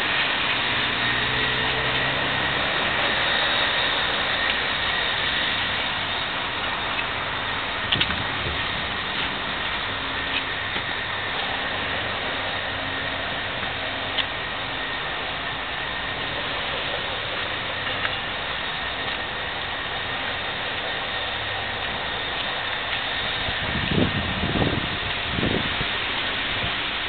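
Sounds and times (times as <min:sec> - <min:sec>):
city road traffic: 0:00.0 - 0:27.0
faint steady whine: 0:00.0 - 0:27.0.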